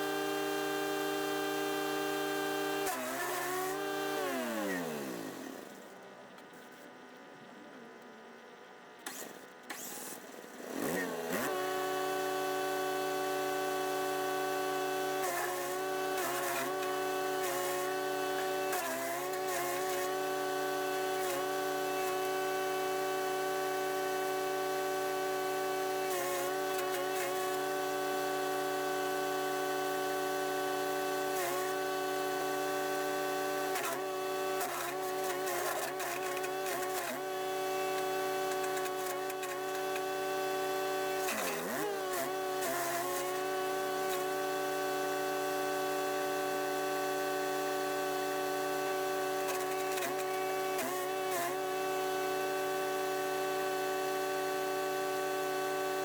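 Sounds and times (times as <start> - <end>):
wood chipper engine: 0.0 - 6.1, 9.1 - 56.0.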